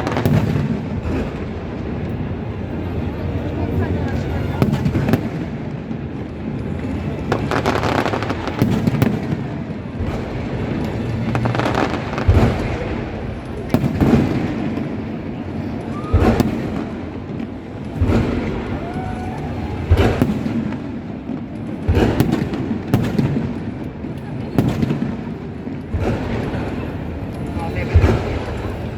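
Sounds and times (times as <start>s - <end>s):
fireworks booming: 0.0s - 28.9s
fireworks crackling: 0.0s - 28.9s.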